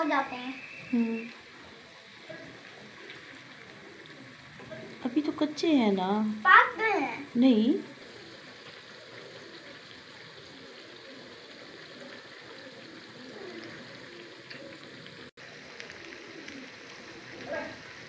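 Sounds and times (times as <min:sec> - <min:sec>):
potato slices sizzling in oil: 0:00.0 - 0:18.0.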